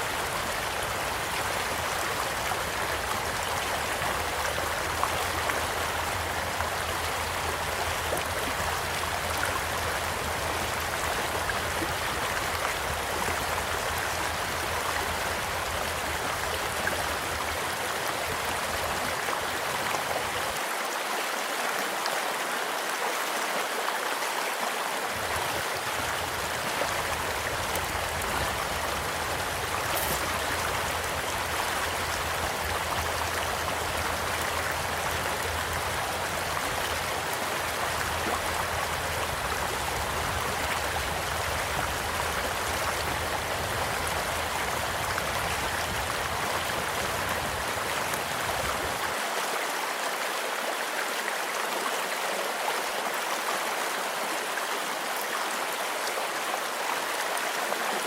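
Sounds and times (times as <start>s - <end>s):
small stream flowing: 0.0s - 58.0s.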